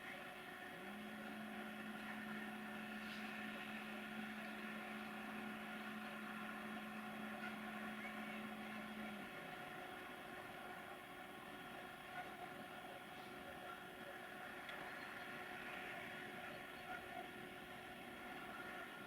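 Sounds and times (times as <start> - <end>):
train mechanical hum: 0.0 - 19.0.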